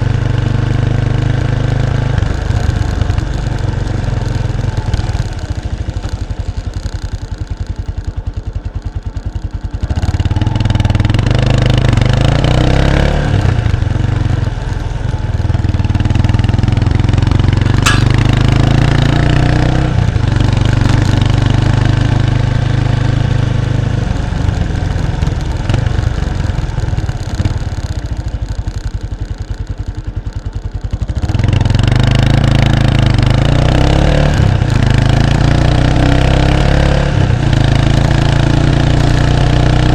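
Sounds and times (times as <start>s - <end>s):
motorcycle exhaust accelerating: 0.0s - 39.9s.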